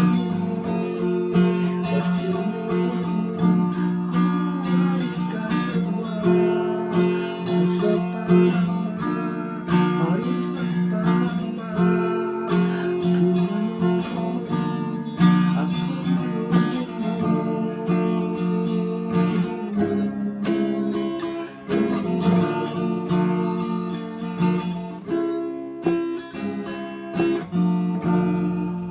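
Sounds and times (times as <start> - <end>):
acoustic guitar strummed chords: 0.0 - 28.9.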